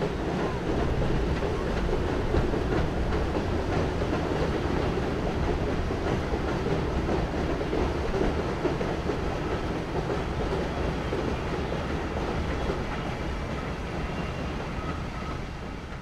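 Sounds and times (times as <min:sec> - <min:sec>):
train wheels rumbling on bridge: 0:00.0 - 0:16.0.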